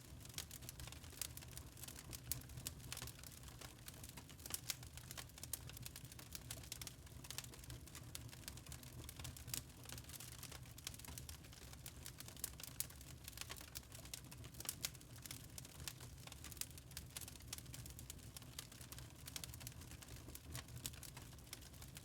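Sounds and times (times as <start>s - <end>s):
burning wood snapping and popping: 0.2s - 21.9s.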